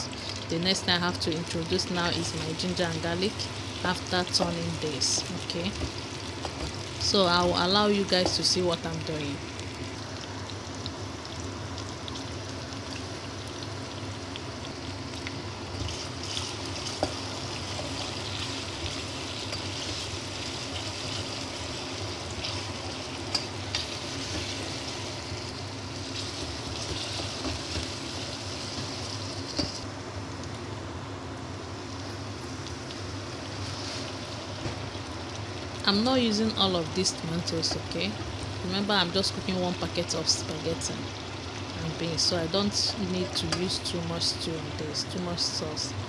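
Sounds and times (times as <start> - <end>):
onions sizzling in oil: 0.0 - 46.0.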